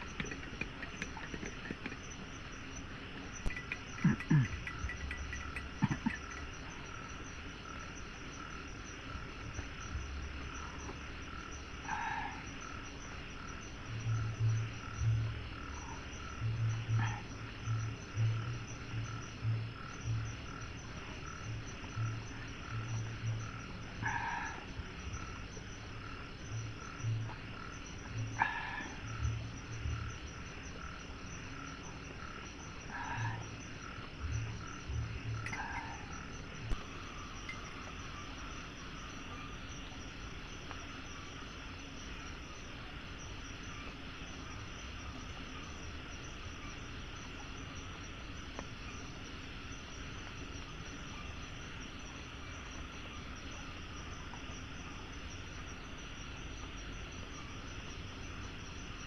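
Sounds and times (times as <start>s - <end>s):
frogs croaking: 0.0s - 59.0s
insects trilling: 0.0s - 59.0s.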